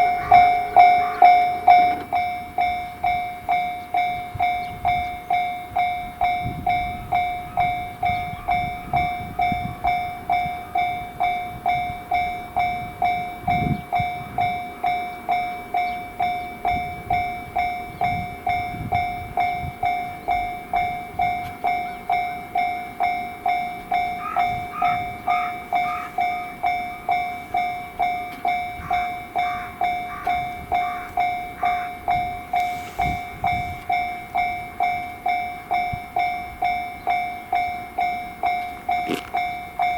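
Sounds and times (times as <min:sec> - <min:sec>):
higher-pitched bell ringing: 0:00.0 - 0:39.9
level crossing bell clanging: 0:00.0 - 0:39.9
train passing rumble: 0:00.0 - 0:39.9.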